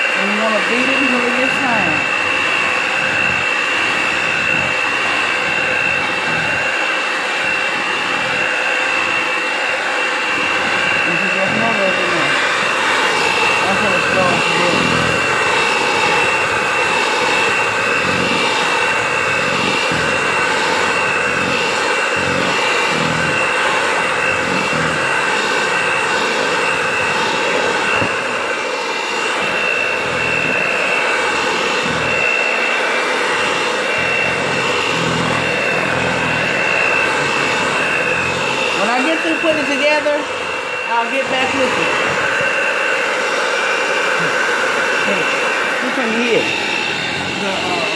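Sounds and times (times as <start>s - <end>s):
electric hand mixer whine: 0.0s - 47.9s.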